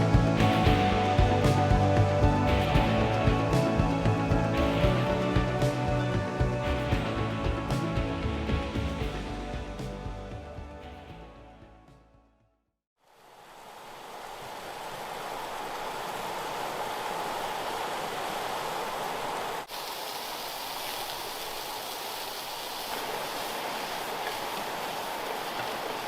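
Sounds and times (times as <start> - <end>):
river flowing: 0.0 - 10.2, 13.0 - 26.0.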